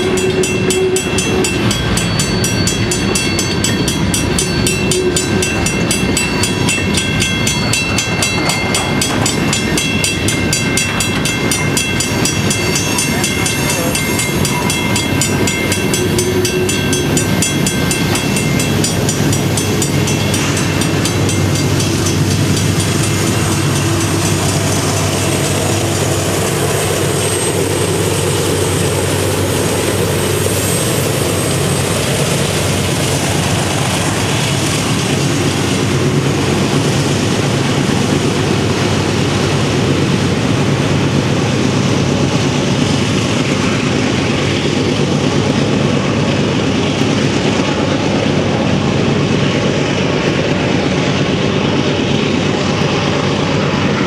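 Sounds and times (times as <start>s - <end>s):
crossing bell ringing: 0.0s - 54.0s
locomotive engines droning: 0.0s - 54.0s
train wheels rolling on rails: 0.0s - 54.0s.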